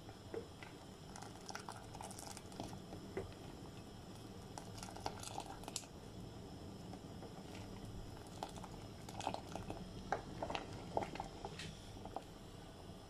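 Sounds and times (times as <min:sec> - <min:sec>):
sauce bubbling in saucepan: 0:00.0 - 0:13.0.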